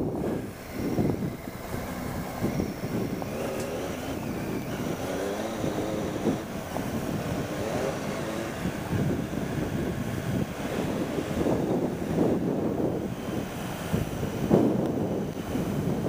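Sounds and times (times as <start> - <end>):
motorcycle engine accelerating: 0.0 - 16.0
road and wind noise: 0.0 - 16.0.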